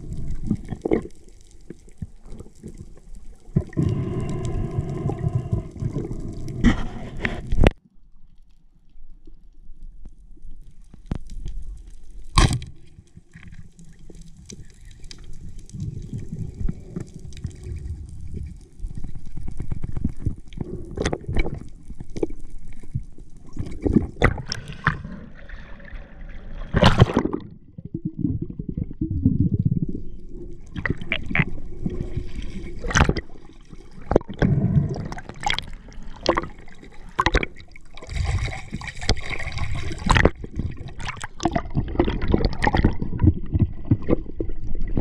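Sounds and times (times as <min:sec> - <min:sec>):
low rumble of water underwater: 0:00.0 - 0:45.0.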